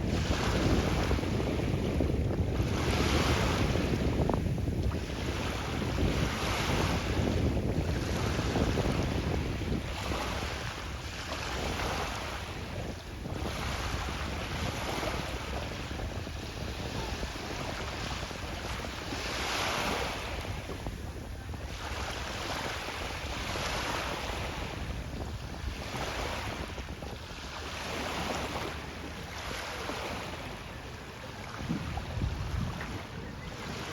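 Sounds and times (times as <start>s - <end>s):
wind buffeting the microphone: 0.0s - 33.9s.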